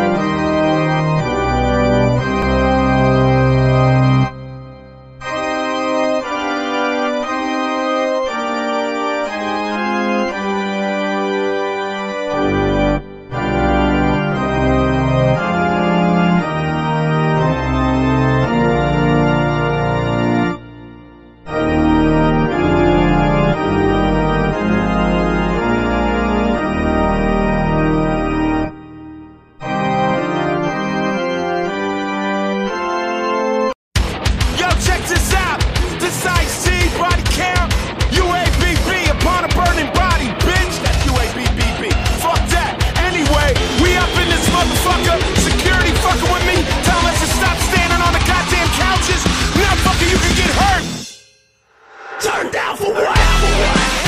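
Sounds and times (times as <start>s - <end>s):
church organ chords: 0.0s - 33.8s, 41.9s - 51.1s, 53.2s - 54.0s.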